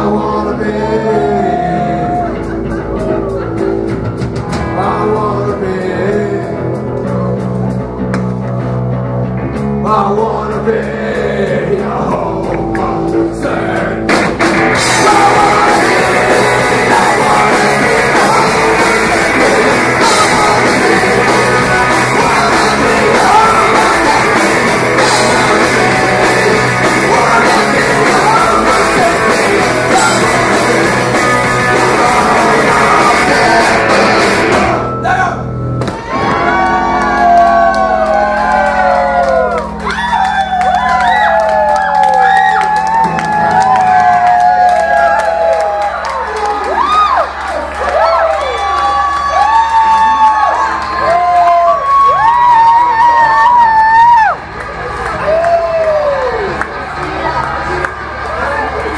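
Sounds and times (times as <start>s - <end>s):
rock band playing live: 0.0s - 58.9s.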